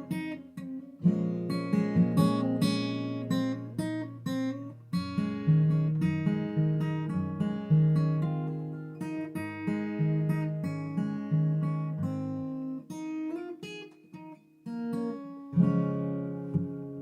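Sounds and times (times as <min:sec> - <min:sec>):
acoustic guitar playing chords: 0:00.0 - 0:17.0.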